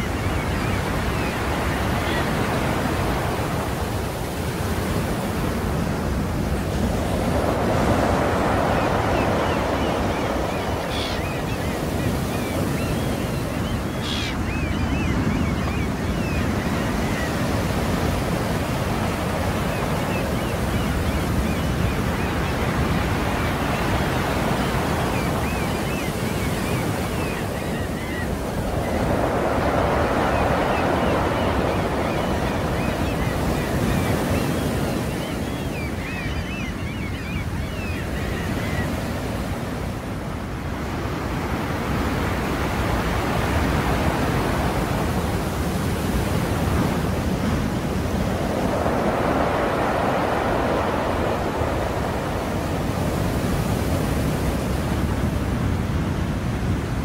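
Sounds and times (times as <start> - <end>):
sea waves washing onto shore: 0.0 - 57.0.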